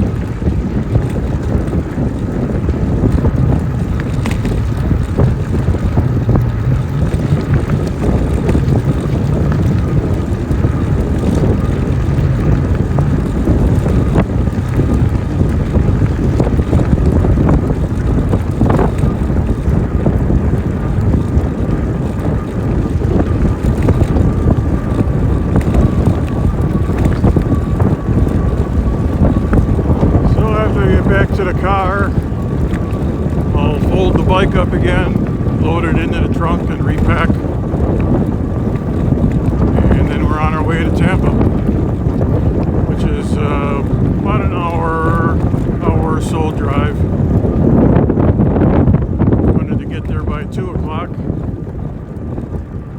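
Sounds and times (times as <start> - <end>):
wind rumbling on microphone: 0.0 - 52.9.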